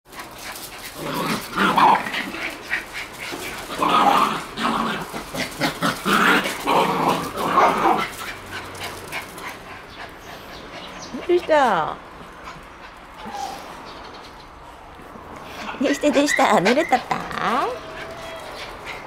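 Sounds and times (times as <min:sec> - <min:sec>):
puppies barking and growling: 0:00.1 - 0:14.6, 0:15.4 - 0:19.0.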